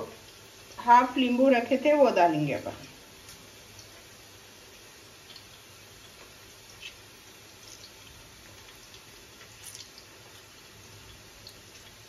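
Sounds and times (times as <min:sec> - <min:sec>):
juice dripping: 0:00.0 - 0:01.9, 0:02.8 - 0:12.0
steady low hiss: 0:00.0 - 0:12.0.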